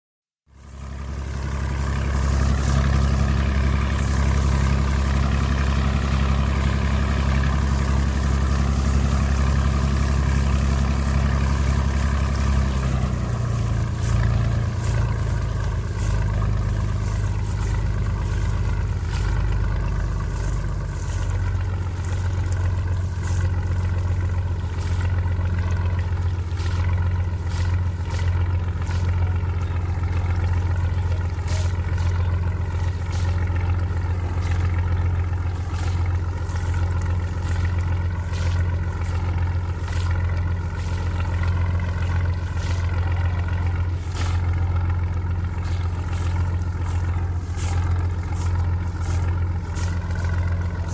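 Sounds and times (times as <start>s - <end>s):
diesel boat engine running: 0.5s - 50.9s.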